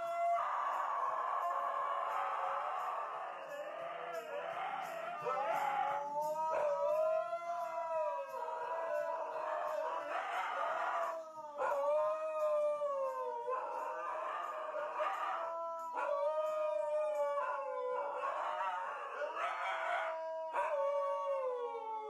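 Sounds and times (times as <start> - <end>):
husky howling: 0.0 - 22.0.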